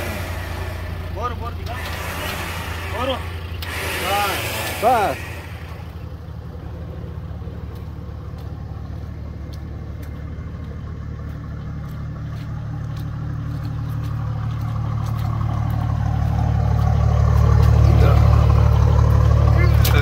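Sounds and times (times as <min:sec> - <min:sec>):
car engine humming: 0:00.0 - 0:20.0.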